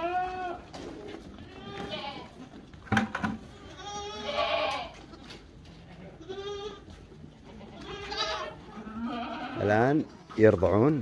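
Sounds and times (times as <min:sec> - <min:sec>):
goats bleating: 0:00.0 - 0:02.7, 0:03.4 - 0:10.5.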